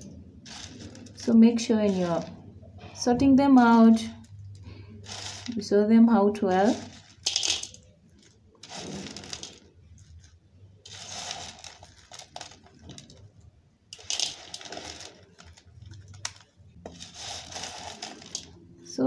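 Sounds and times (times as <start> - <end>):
dried fish rustling on a plate: 0.0 - 2.4, 3.6 - 5.7, 6.4 - 18.6.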